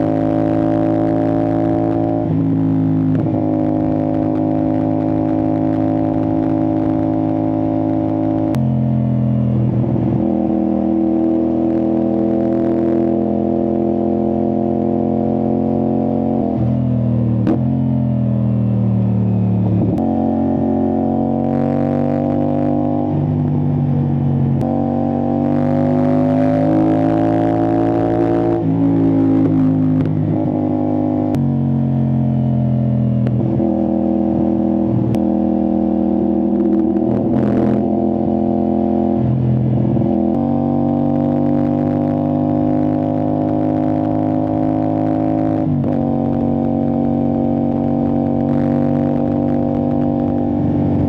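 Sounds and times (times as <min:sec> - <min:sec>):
motorcycle engine shifting gears: 0:00.0 - 0:51.0.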